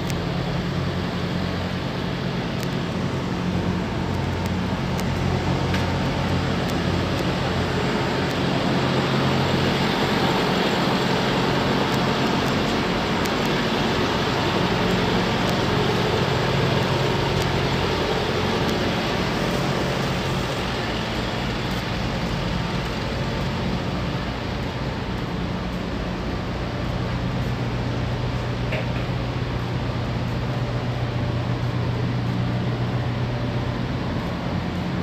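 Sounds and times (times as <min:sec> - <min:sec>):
constant rushing noise: 0:00.0 - 0:35.0
engine drone: 0:00.0 - 0:35.0.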